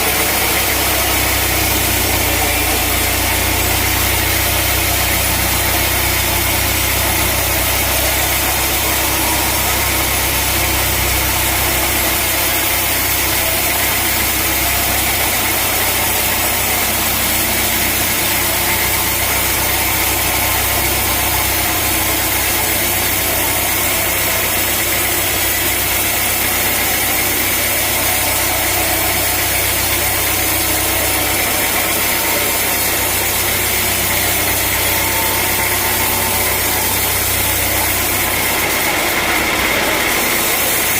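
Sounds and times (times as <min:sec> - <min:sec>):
sawmill engine droning: 0:00.0 - 0:40.9.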